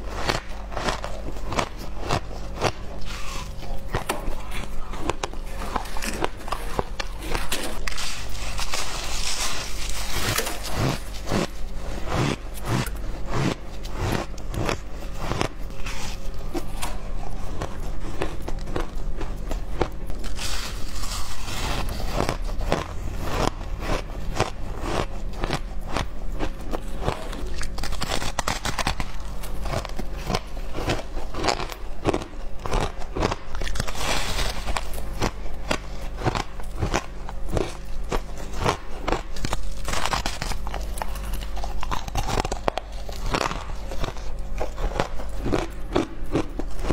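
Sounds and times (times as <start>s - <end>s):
chewing shaved ice crunches: 0.0s - 46.9s
low hum: 0.0s - 46.9s.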